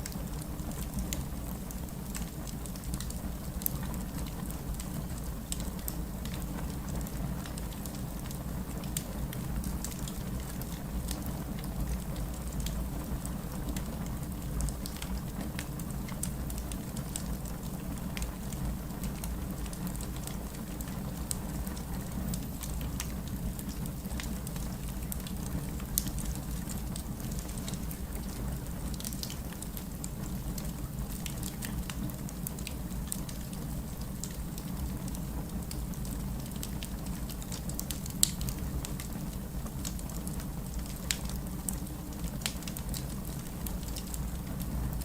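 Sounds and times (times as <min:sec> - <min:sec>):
fireplace fire crackling: 0:00.0 - 0:45.0.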